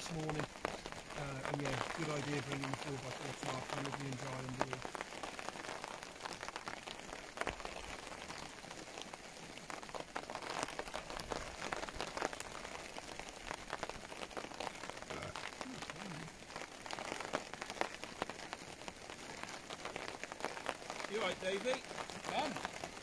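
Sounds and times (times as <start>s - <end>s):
heavy rain falling: 0.0s - 23.0s
raindrops ticking close by: 0.0s - 23.0s.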